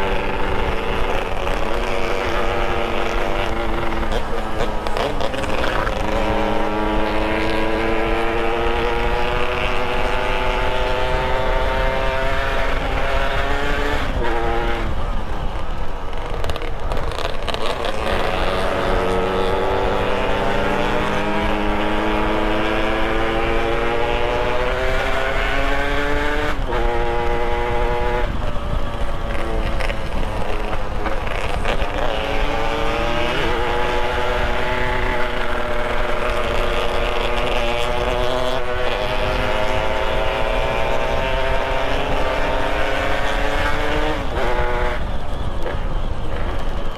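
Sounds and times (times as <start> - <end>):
small motorcycle engine revving: 0.0 - 46.9
wind rumble on microphone: 0.0 - 46.9.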